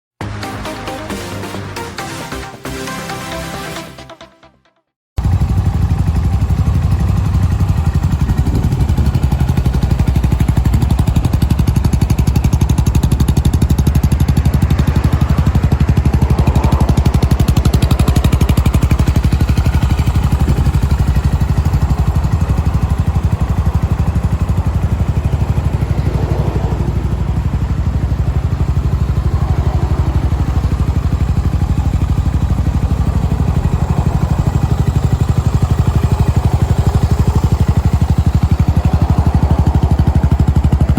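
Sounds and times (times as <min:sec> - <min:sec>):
motorcycle engine idling: 0:05.2 - 0:40.9.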